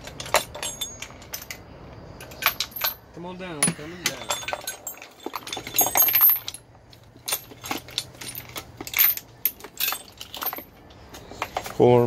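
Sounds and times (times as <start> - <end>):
metal chain and hooks clinking: 0.0 - 12.0.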